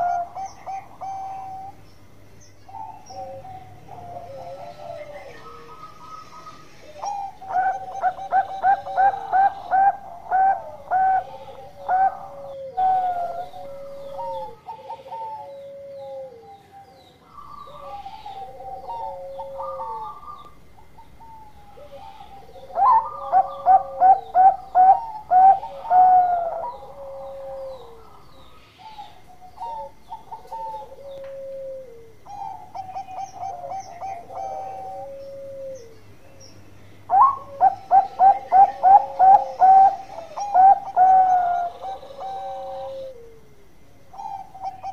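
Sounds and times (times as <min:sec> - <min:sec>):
dove long coos dropping in pitch: 0:00.0 - 0:36.4, 0:37.0 - 0:44.9
dove staccato coos: 0:02.7 - 0:16.4, 0:17.4 - 0:35.9, 0:37.1 - 0:44.9.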